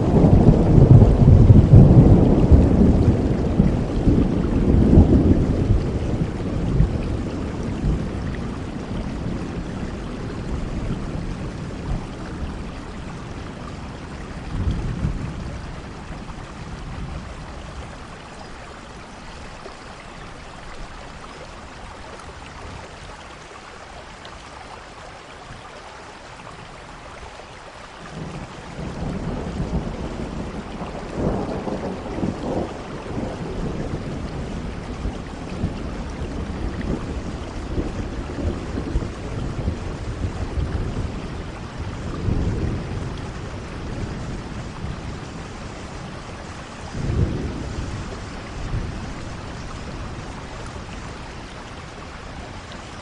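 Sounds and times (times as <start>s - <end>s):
rolling thunder: 0.0s - 18.6s, 28.1s - 53.0s
steady rain: 0.0s - 53.0s.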